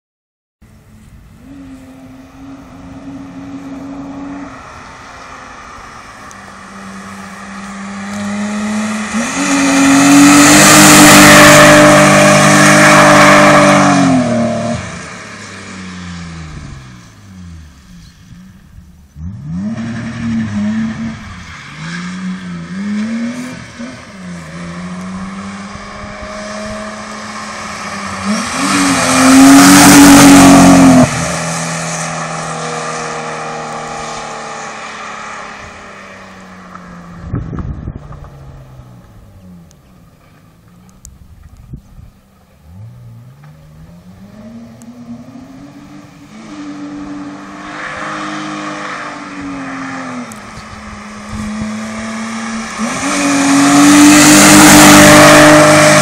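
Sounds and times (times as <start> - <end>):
car engine revving: 0.6 - 56.0.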